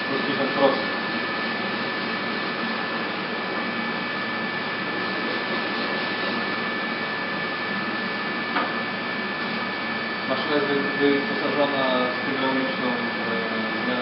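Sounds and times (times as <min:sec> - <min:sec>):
high-pitched machine whine: 0:00.0 - 0:14.0
milling machine running: 0:00.0 - 0:14.0.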